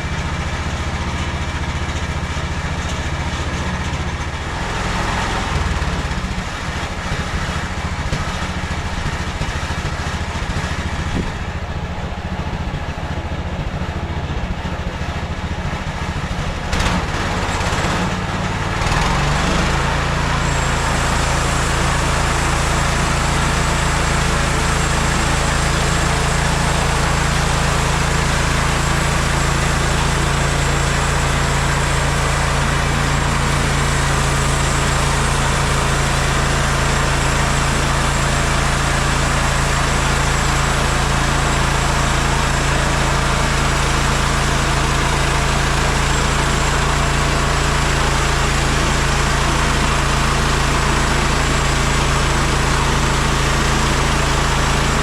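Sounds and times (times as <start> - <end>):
gas engine idling and revving: 0.0 - 55.0.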